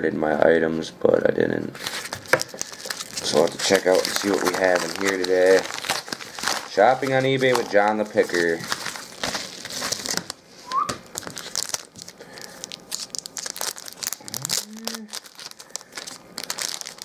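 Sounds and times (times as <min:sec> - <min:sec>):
paper envelope rustling: 0:01.8 - 0:10.4, 0:11.1 - 0:17.0
plastic sleeves crinkling: 0:01.8 - 0:17.0.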